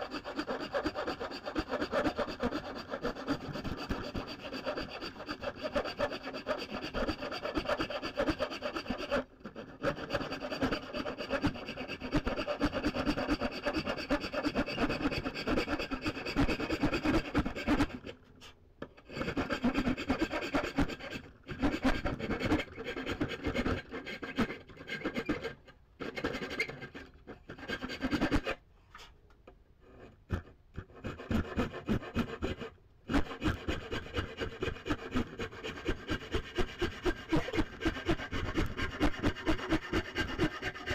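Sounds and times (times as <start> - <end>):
hand tool scraping wood: 0.0 - 29.1, 29.9 - 40.9.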